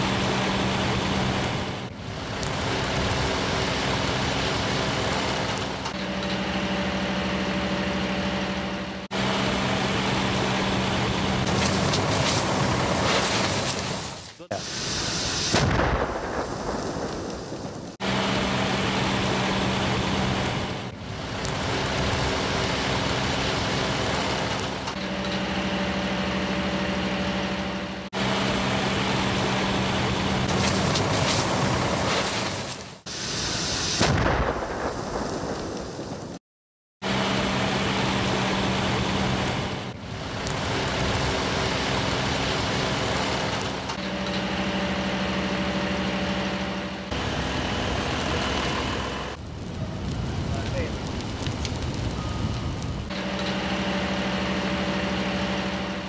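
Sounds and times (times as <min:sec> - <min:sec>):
flames rushing: 0:00.0 - 0:36.4, 0:37.0 - 0:56.0.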